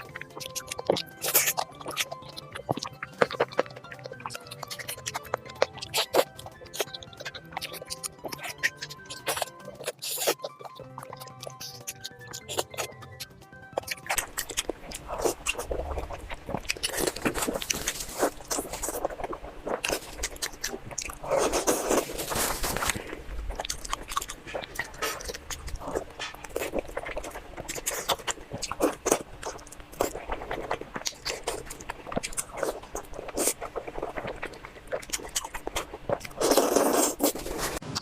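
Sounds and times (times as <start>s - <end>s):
chewing meat: 0.0s - 38.0s.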